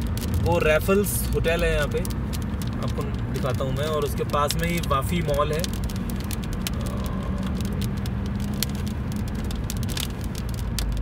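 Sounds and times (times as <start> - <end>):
car engine and road drone: 0.0 - 11.0
raindrops hitting windshield: 0.0 - 11.0.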